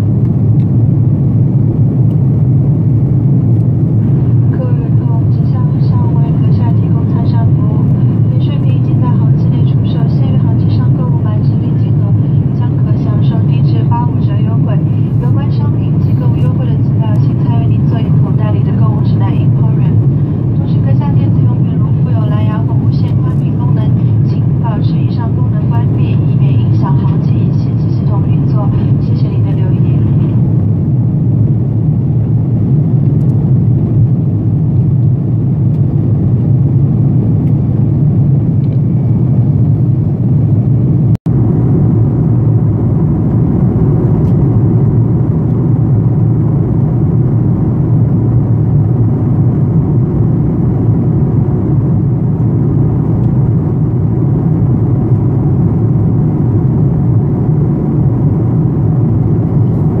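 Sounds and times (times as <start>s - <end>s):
airliner cabin engine rumble: 0.0s - 60.0s.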